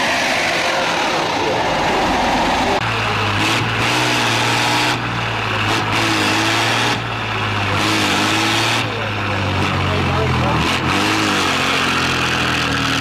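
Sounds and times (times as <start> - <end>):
diesel truck engine running hard: 0.0 - 13.0.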